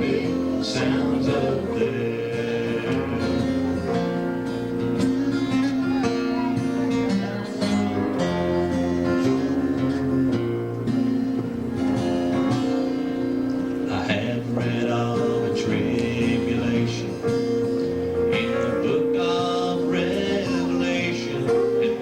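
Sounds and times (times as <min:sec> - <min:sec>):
acoustic guitar: 0:00.0 - 0:22.0
bass notes: 0:00.0 - 0:22.0.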